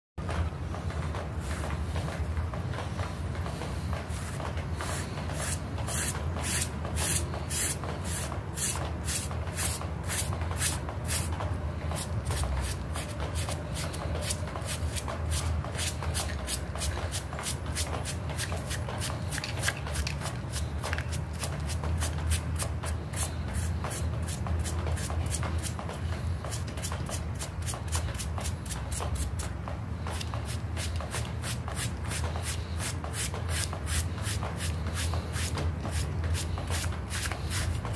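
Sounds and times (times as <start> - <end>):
brush scrubbing wet carpet: 3.7 - 29.5, 30.1 - 37.9.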